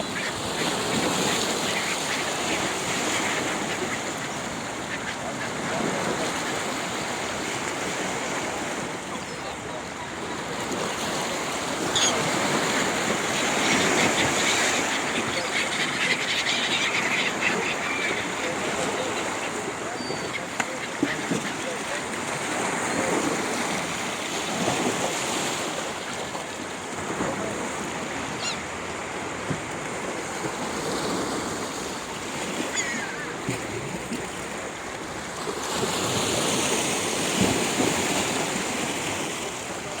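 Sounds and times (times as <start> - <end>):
sea waves washing in: 0.0 - 40.0.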